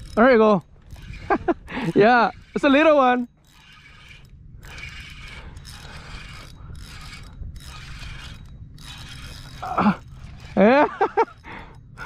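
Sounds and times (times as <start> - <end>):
fishing reel gears whirring: 0.0 - 12.0.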